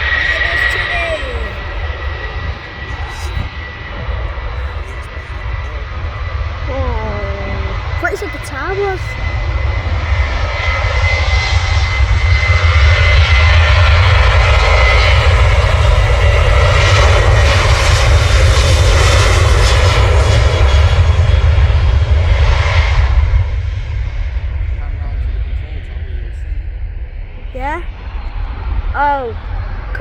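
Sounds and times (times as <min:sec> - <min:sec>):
high steady whine: 0:00.0 - 0:30.0
jet engines roaring: 0:00.0 - 0:30.0.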